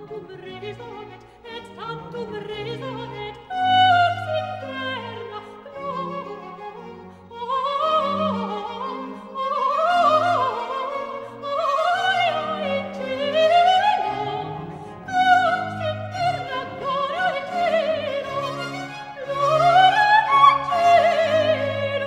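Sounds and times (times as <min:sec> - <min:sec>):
orchestral accompaniment: 0:00.0 - 0:22.0.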